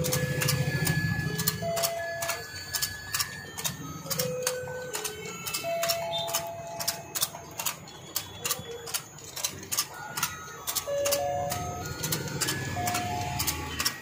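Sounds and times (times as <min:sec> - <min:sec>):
electronic beeping tune: 0:00.0 - 0:14.0
plastic gears clicking: 0:00.0 - 0:14.0.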